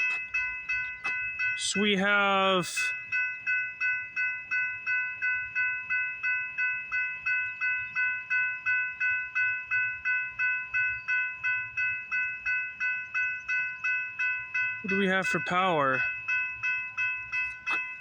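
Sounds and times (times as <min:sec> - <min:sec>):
level crossing bell ringing: 0:00.0 - 0:18.0.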